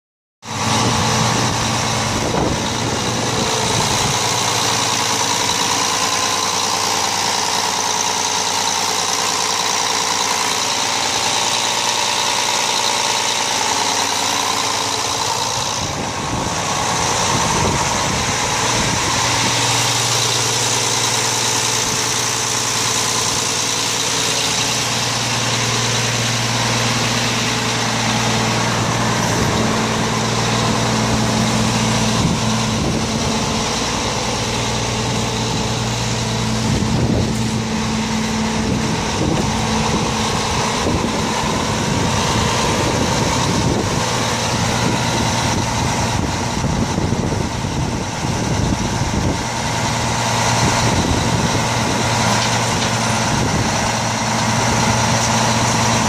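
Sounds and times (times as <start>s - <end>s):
diesel truck engine idling: 0.4s - 56.0s.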